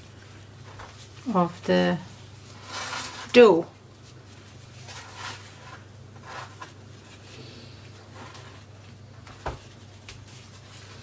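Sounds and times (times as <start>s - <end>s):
plastic gloves rustling and squishing: 0.0s - 11.0s
steady low hum: 0.0s - 11.0s.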